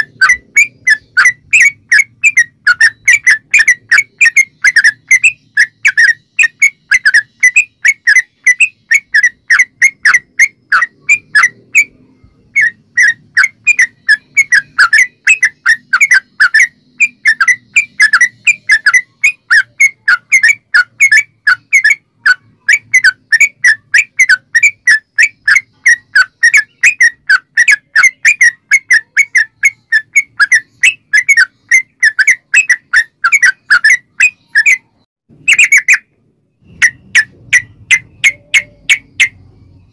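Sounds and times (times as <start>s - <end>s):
bird rattling song: 0.0s - 11.9s, 12.5s - 39.9s.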